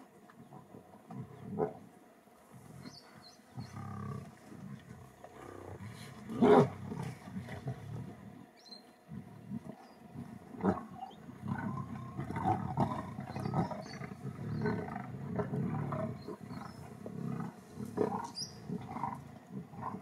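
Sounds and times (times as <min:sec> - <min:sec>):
lions growling and snarling: 0:02.6 - 0:08.4, 0:09.1 - 0:20.0.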